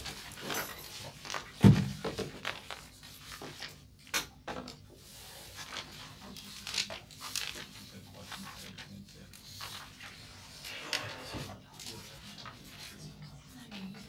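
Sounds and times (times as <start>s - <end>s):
paper pages rustling: 0.0s - 4.0s, 5.0s - 10.7s, 11.3s - 14.0s.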